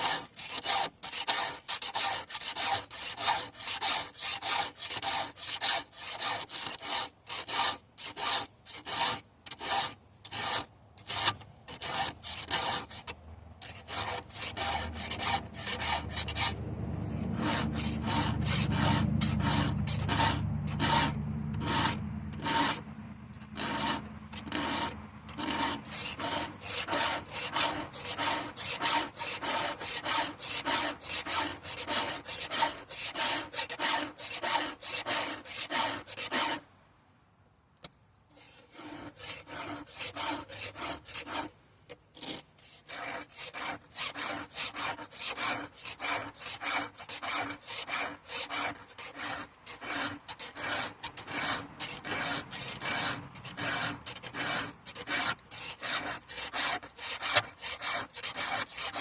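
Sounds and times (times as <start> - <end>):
hand file rasping on chain: 0.0 - 36.6, 38.4 - 59.0.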